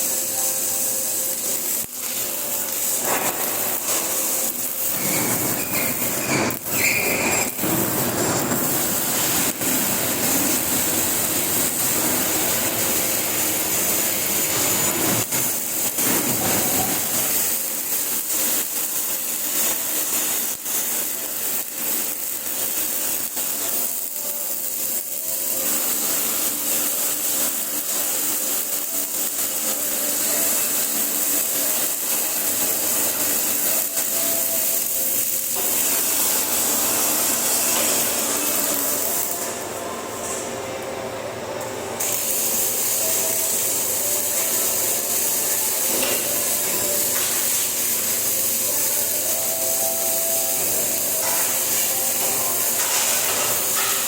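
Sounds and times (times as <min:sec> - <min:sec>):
welding arc crackling and hissing: 0:00.0 - 0:54.0.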